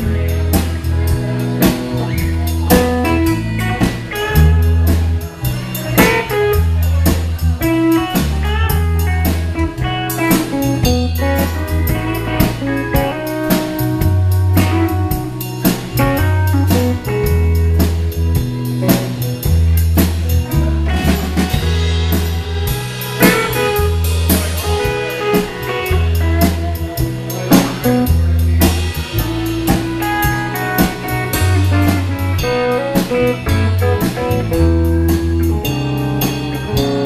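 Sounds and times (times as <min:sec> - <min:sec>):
drum kit: 0:00.0 - 0:37.0
electric guitar: 0:00.0 - 0:37.0
low bass line: 0:00.0 - 0:37.0.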